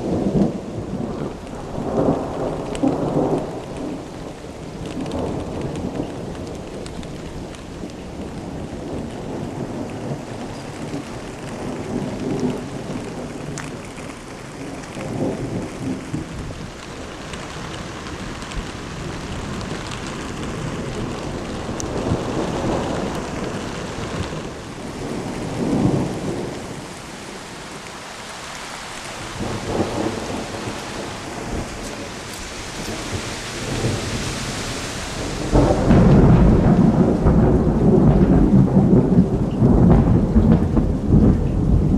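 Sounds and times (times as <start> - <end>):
sharp thunderclap: 0.0 - 27.0, 29.2 - 41.9
rolling thunder: 0.0 - 28.2, 28.8 - 41.9
steady rain: 0.0 - 41.9.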